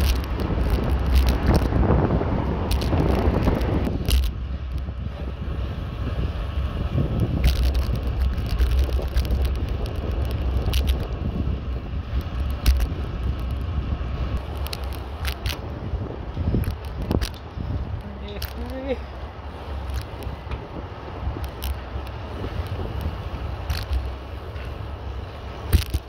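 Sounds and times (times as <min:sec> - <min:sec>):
bicycle clicks and rattles: 0:00.0 - 0:26.0
wind buffeting microphone: 0:00.0 - 0:26.0.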